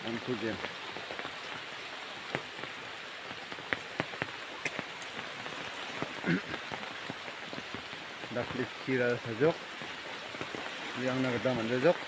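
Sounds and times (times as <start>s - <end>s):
rain hissing: 0.0s - 12.0s
raindrops striking leaves: 0.0s - 12.0s.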